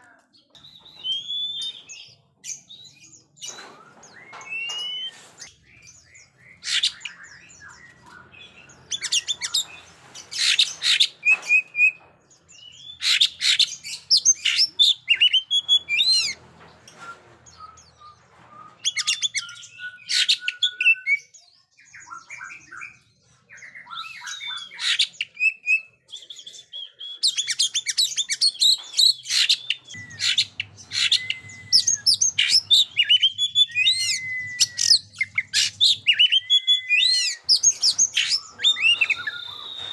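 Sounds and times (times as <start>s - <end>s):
bird singing: 0.5s - 16.4s, 17.5s - 39.9s.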